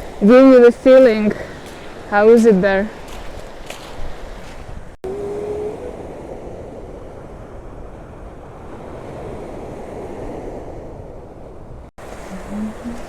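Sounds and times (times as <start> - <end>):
surf washing on beach: 0.0 - 13.0
wind: 0.0 - 13.0.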